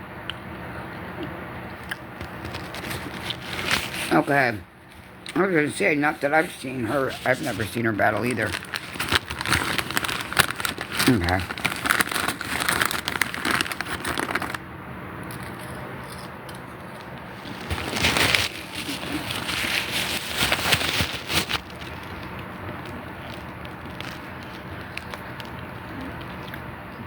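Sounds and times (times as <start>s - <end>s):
crinkling handling noise: 1.8s - 14.6s, 15.2s - 27.0s.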